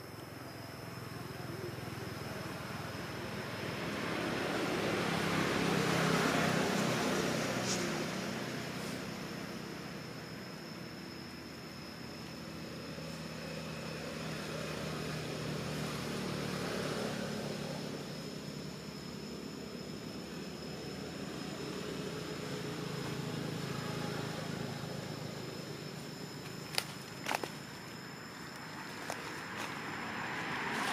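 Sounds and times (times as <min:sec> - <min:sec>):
low mechanical hum: 0:00.0 - 0:30.9
thin high whine: 0:04.5 - 0:30.9.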